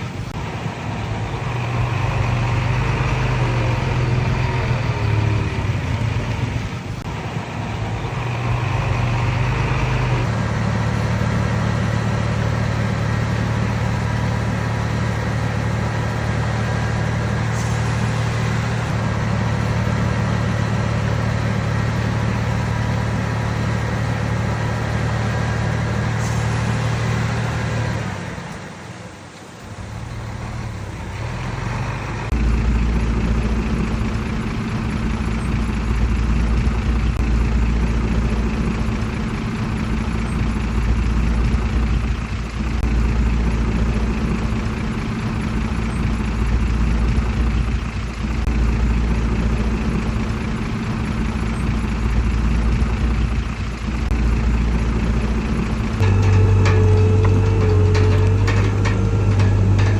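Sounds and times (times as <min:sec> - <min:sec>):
deeper louder engine: 0:00.0 - 0:59.9
heavy diesel engine running: 0:00.0 - 0:59.9.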